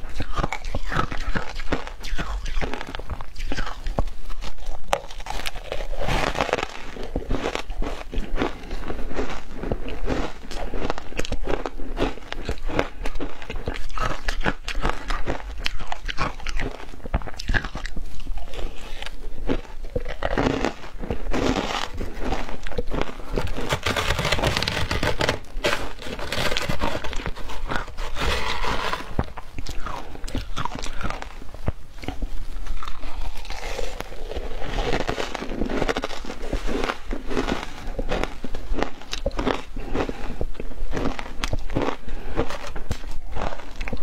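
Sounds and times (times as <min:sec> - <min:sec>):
crunching and chewing shaved ice: 0:00.0 - 0:44.0.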